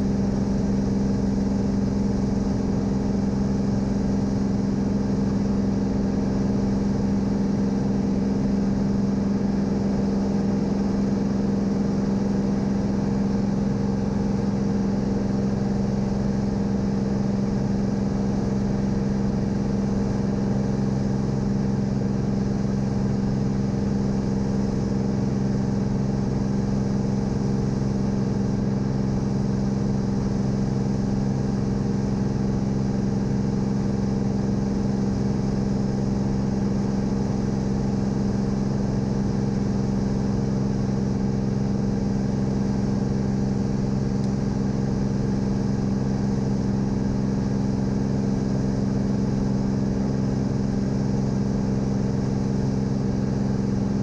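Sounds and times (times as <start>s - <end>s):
aircraft engine droning in cabin: 0.0s - 54.0s.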